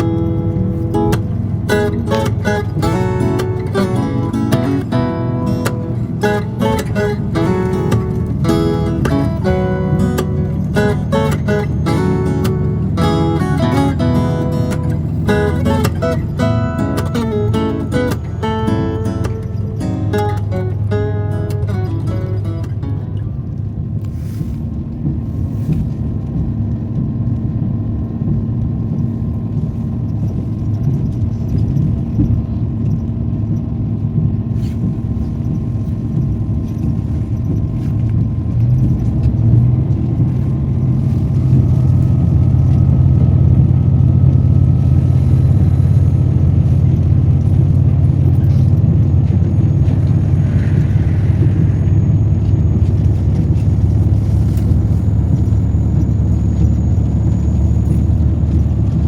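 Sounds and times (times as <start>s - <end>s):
diesel train rumbling: 0.0s - 59.0s
faint engine hum: 0.0s - 59.0s.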